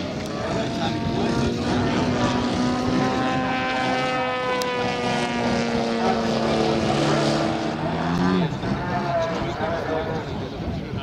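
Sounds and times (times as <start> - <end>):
model aircraft engine running: 0.0 - 11.0.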